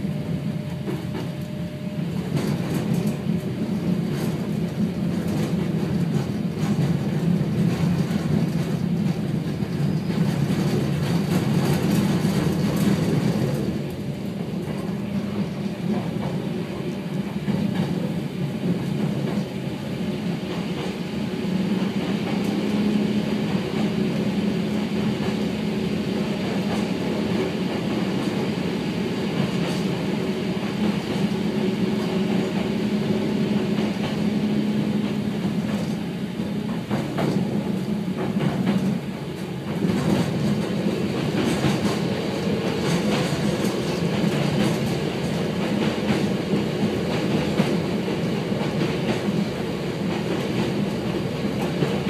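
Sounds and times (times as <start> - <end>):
train wheels on rails: 0.0 - 52.0.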